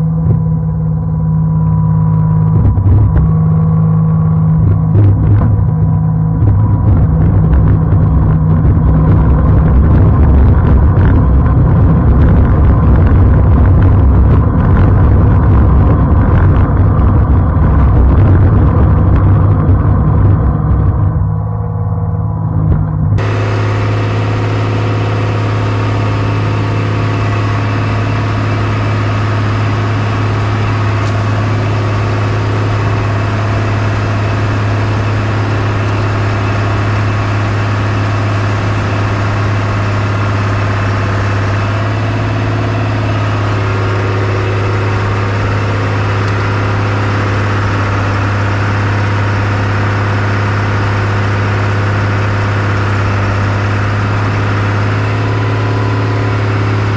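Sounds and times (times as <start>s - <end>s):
snowcat engine droning: 0.0s - 56.9s.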